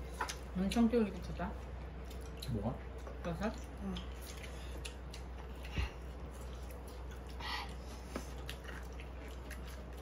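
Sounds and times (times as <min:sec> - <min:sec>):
steady low hum: 0:00.0 - 0:10.0
chewing: 0:01.6 - 0:10.0.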